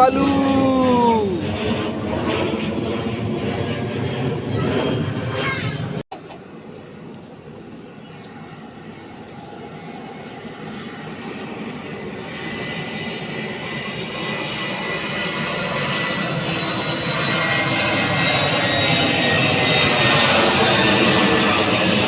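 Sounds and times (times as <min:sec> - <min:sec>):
airplane engine noise: 0:00.0 - 0:22.0.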